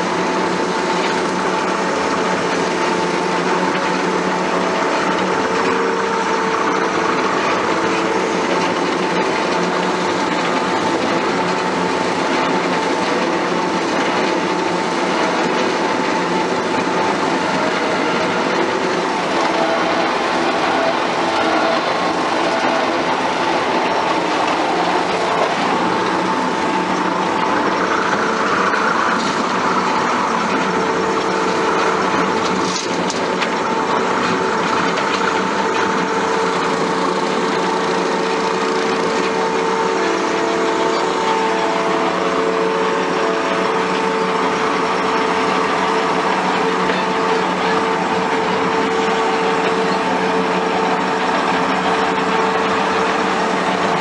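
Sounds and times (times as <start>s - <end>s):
engine running: 0.0s - 54.0s
rotary mower hum: 0.0s - 54.0s.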